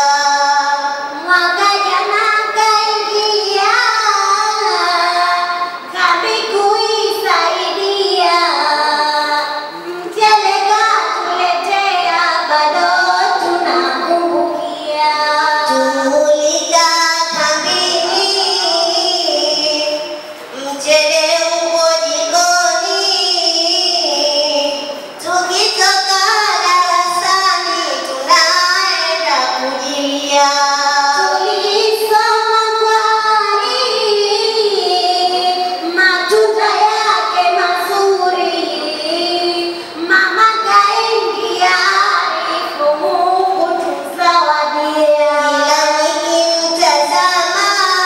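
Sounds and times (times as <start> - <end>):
girls chanting melodically: 0.0 - 48.0.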